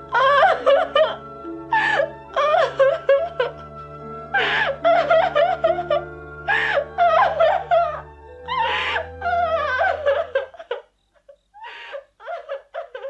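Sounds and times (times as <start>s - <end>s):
person sobbing and wailing: 0.0s - 10.9s, 11.6s - 13.0s
soft background music: 0.0s - 11.0s.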